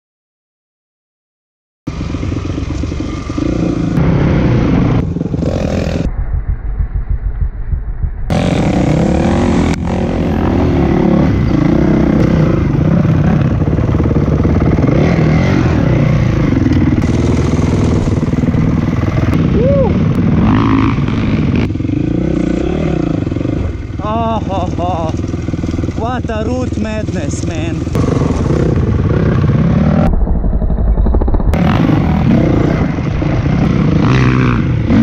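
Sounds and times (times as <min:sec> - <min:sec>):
dirt bike engines revving: 0:01.9 - 0:06.1, 0:08.3 - 0:30.1, 0:31.5 - 0:35.0.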